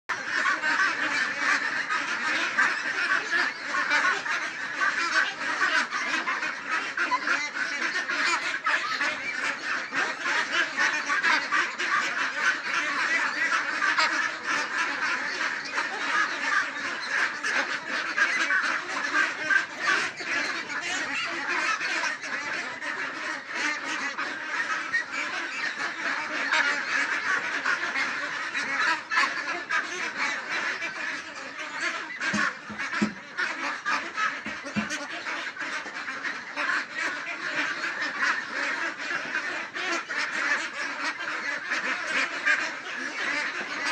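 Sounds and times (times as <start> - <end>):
flock of ducks quacking: 0.1 - 43.9.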